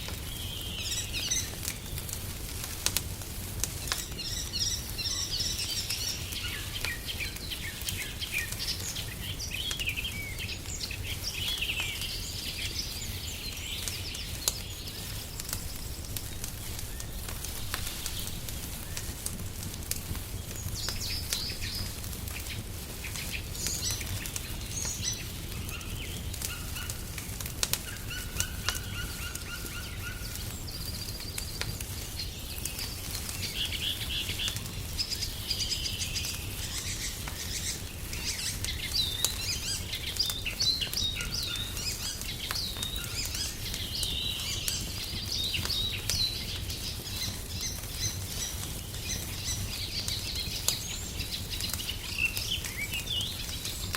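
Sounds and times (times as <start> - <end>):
wood fire crackling: 0.0 - 53.9
songbirds chirping and trilling: 3.6 - 53.9.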